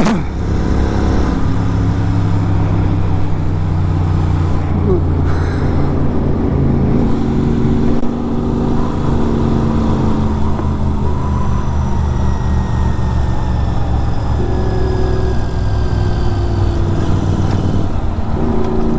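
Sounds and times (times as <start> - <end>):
motorbike engine running: 0.0 - 18.9.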